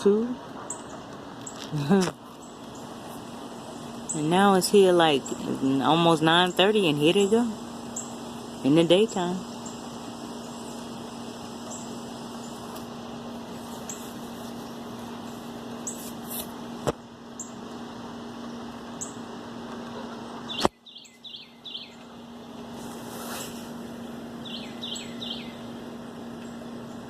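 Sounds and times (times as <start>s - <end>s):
constant low hum: 0.0s - 27.0s
songbirds chirping: 0.0s - 27.0s.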